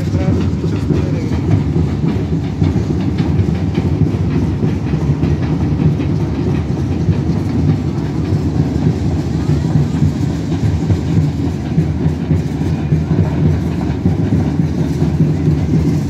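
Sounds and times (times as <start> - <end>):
drumming and clatter: 0.0 - 16.0
low rumble: 0.0 - 16.0.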